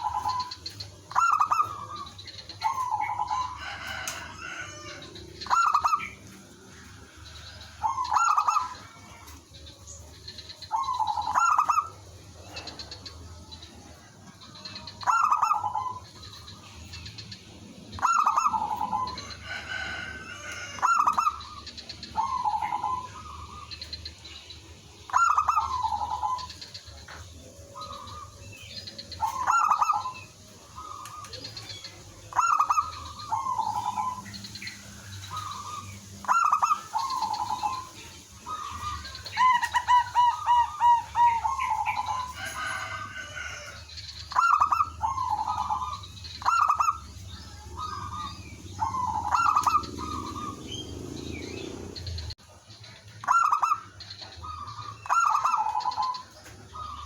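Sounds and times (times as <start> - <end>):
doves cooing: 0.0 - 57.0.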